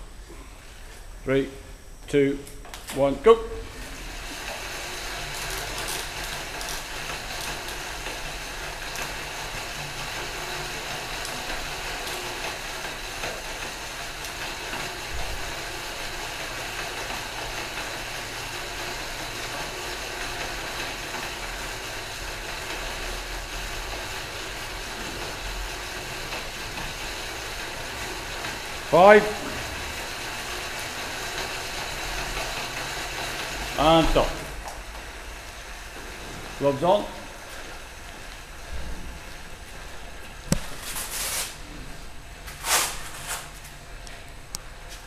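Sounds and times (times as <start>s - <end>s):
exercise bike flywheels whirring: 2.8s - 45.0s.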